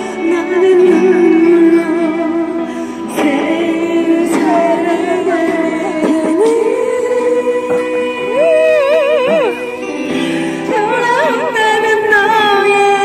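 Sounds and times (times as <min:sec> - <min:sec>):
backing music: 0:00.0 - 0:13.0
woman singing into microphone: 0:00.0 - 0:13.0.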